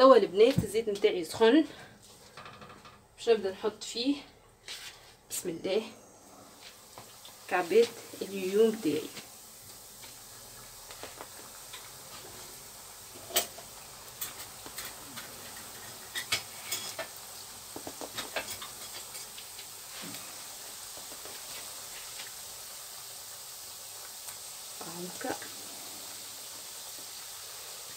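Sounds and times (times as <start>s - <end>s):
hot oil sizzling and popping: 0.0s - 27.9s.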